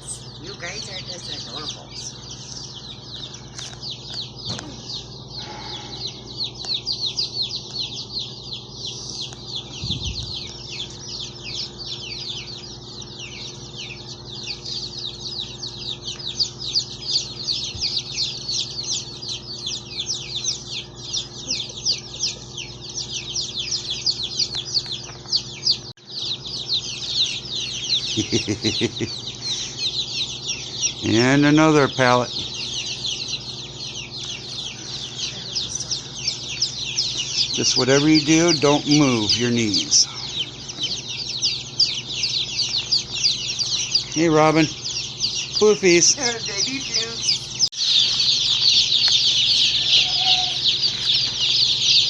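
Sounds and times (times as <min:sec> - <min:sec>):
chicks peeping: 0:00.0 - 0:52.0.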